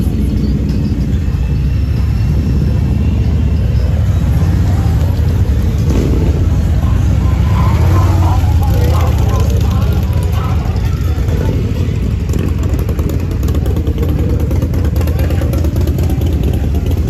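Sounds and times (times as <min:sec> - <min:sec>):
motorcycles riding past: 0:00.0 - 0:17.0.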